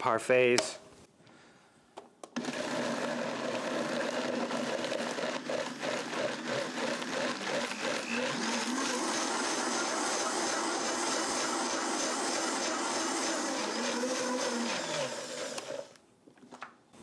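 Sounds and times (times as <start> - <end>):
blender running: 2.4 - 16.0.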